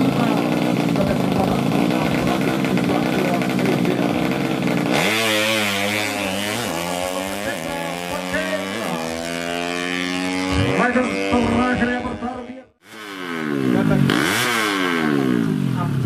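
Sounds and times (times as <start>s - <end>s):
motorcycle accelerating hard: 0.0s - 16.0s.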